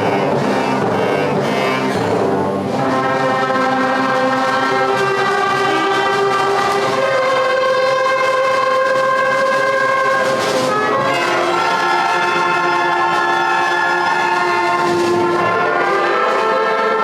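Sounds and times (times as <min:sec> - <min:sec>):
concert band playing chords: 0:00.0 - 0:17.0.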